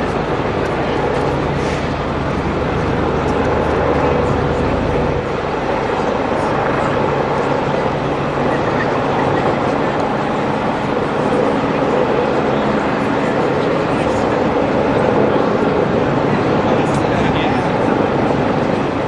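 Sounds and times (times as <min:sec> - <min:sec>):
continuous noise: 0:00.0 - 0:19.0.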